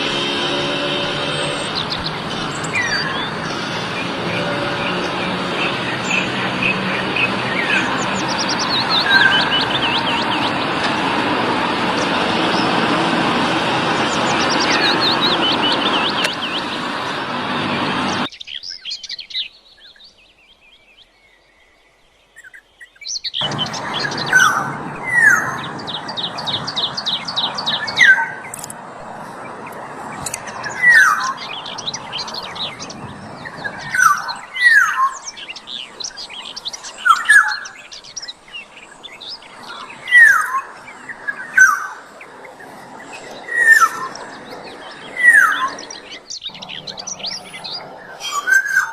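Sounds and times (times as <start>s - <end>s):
loud steady rushing noise: 0.0s - 18.3s, 23.4s - 48.9s
high bird twittering: 0.0s - 20.0s, 22.4s - 28.7s, 29.5s - 48.9s.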